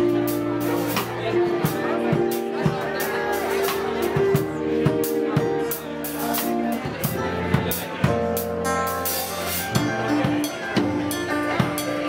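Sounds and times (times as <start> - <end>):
drum kit steady beat: 0.0 - 12.0
guitar: 0.0 - 12.0.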